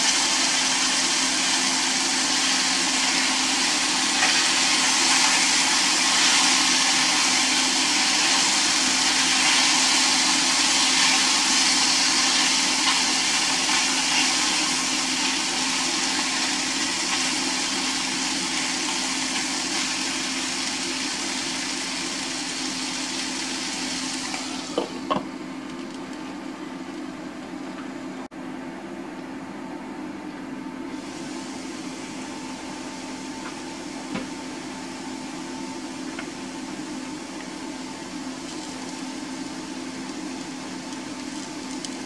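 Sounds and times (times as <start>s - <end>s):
mushrooms sizzling in frying pan: 0.0s - 25.1s, 31.0s - 42.0s.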